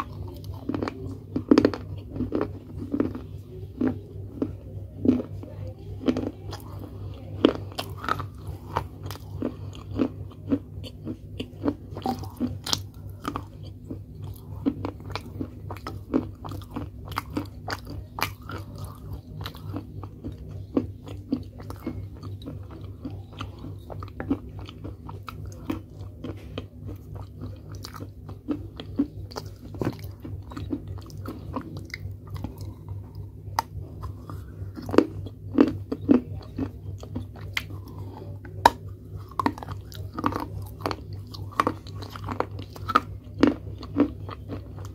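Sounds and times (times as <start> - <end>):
chewing crunchy pottery pieces: 0.0 - 44.9
faint low hum: 0.0 - 44.9.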